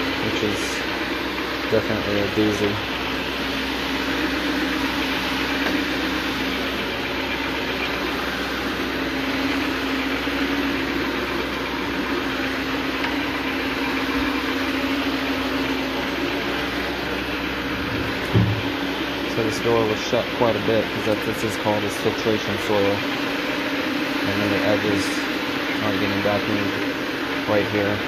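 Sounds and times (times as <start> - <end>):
carpet brush machine running: 0.0 - 28.0.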